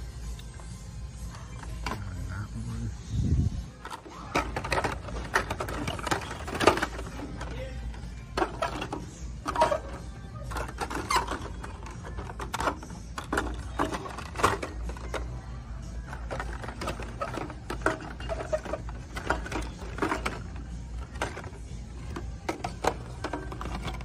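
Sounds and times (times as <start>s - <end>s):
plastic toy packages clacking: 3.8s - 15.4s, 16.0s - 24.0s.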